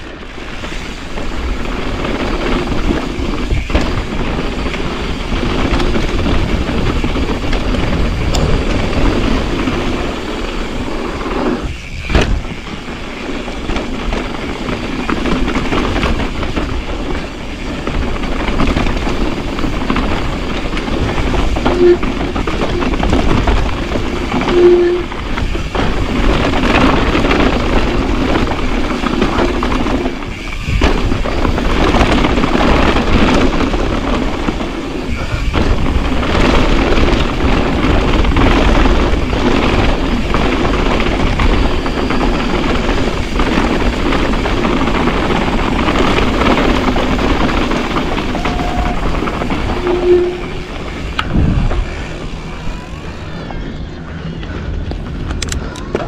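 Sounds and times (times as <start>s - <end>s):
bike squeaks: 0.4s - 54.4s
mountain bike clattering over rocks: 0.6s - 49.9s.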